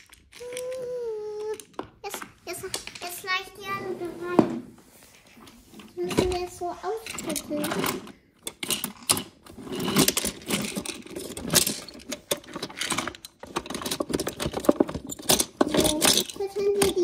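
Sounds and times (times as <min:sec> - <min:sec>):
toy pieces clattering: 0:00.0 - 0:03.4, 0:06.0 - 0:17.0.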